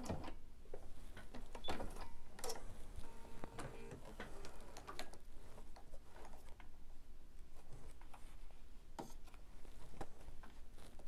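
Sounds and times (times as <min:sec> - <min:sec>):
fabric rustling: 0:00.6 - 0:01.6, 0:02.2 - 0:11.0.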